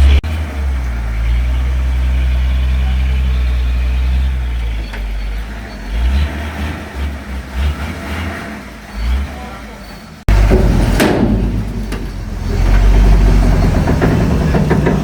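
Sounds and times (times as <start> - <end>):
lorry engine idling: 0.0 - 6.2, 8.6 - 15.0.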